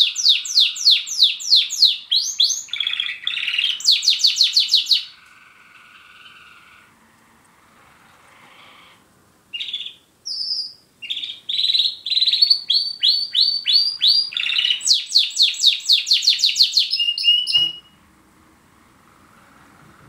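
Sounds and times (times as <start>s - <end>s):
canary singing trills: 0.0s - 18.0s.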